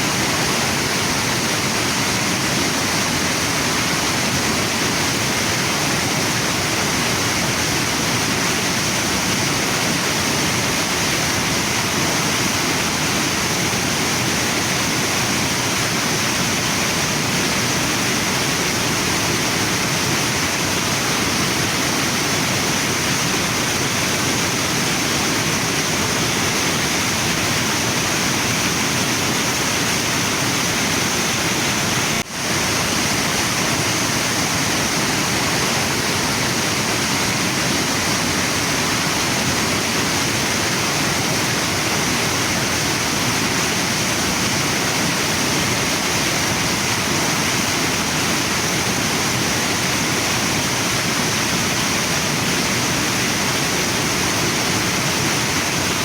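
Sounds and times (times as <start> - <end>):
waterfall and river rushing: 0.0 - 56.0.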